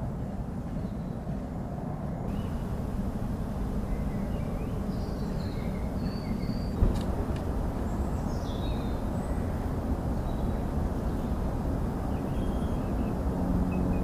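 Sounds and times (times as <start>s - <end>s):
low outdoor rumble: 0.0s - 14.0s
small birds chirping: 2.3s - 14.0s.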